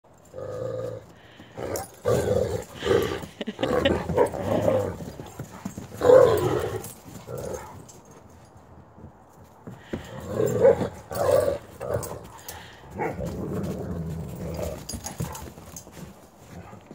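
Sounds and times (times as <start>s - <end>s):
dogs growling while play-fighting: 0.2s - 8.1s, 9.6s - 16.1s.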